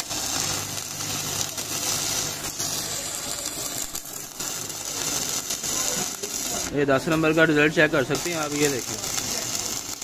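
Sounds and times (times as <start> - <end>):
welding arc crackling: 0.0 - 10.0.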